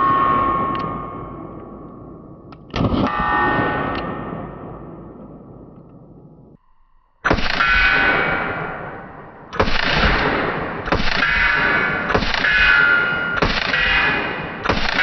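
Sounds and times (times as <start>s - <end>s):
loud metallic clangs ringing: 0.0s - 5.8s, 7.2s - 15.0s.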